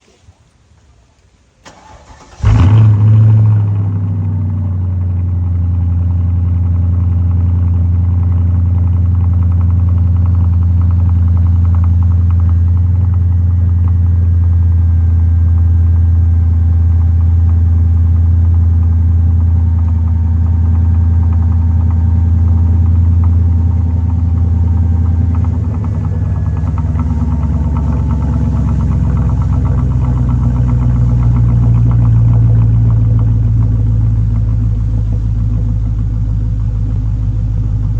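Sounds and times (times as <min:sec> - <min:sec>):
car engine idling loud: 0:01.8 - 0:37.9.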